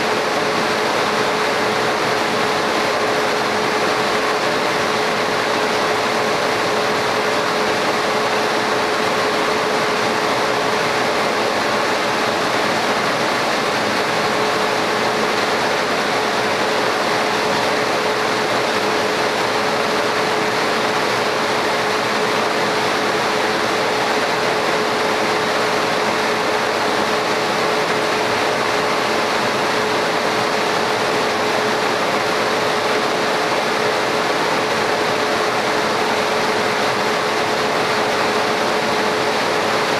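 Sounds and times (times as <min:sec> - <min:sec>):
laser cutter air rush and hum: 0:00.0 - 0:39.9.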